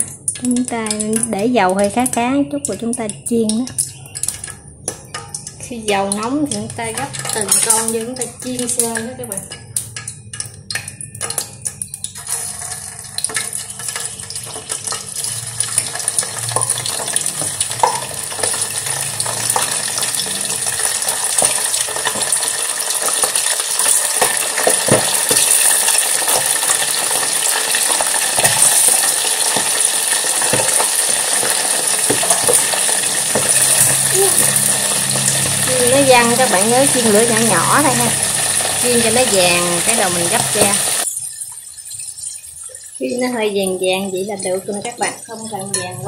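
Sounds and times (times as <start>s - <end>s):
food frying in hot oil: 0.0s - 46.0s.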